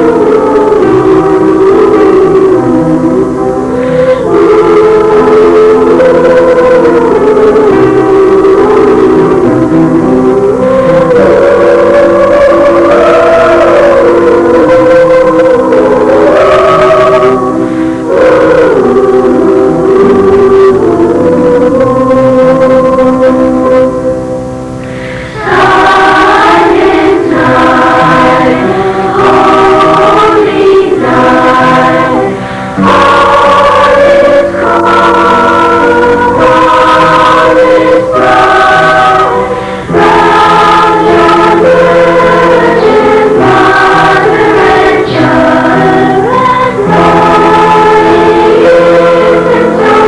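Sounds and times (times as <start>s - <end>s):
school choir singing: 0.0s - 23.9s, 24.9s - 50.0s.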